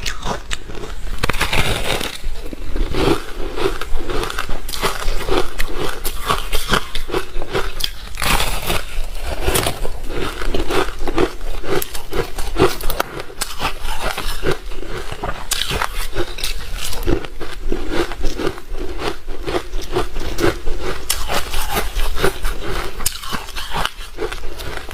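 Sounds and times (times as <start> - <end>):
ice crunching while chewing: 0.0 - 24.9.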